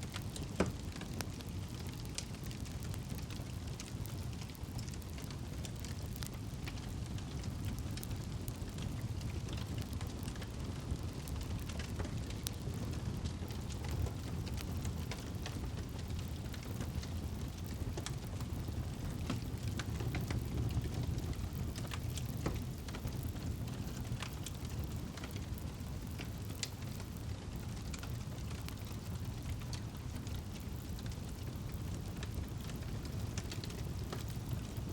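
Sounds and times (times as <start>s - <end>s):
campfire flames rushing: 0.0s - 34.9s
fire crackling and popping: 0.0s - 34.9s.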